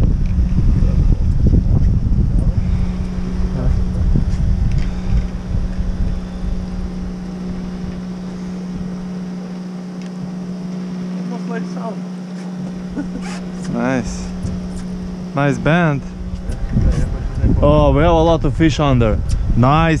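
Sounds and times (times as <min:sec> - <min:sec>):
wind rumbling on microphone: 0:00.0 - 0:11.2, 0:12.5 - 0:20.0
outboard motor humming: 0:00.0 - 0:20.0.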